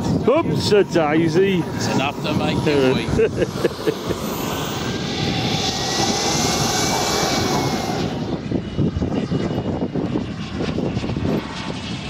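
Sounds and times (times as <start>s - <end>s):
model plane engine droning: 0.0s - 12.0s.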